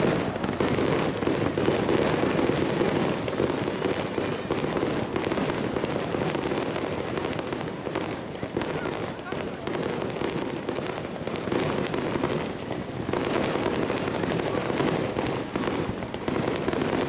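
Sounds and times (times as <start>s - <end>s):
fireworks barrage: 0.0s - 17.0s.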